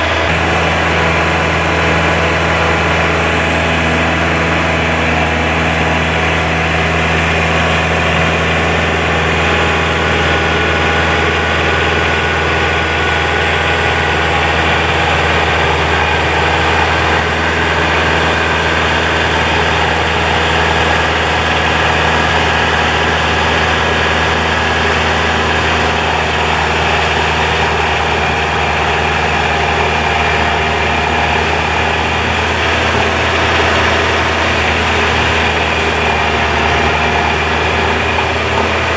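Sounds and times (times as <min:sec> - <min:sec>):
snowblower through wet snow: 0:00.0 - 0:38.9
tractor diesel engine running: 0:00.0 - 0:38.9.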